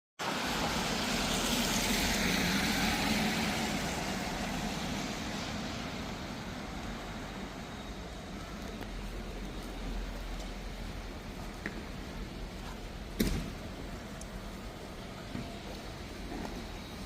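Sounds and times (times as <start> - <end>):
vehicle passing on wet street: 0.2 - 17.0.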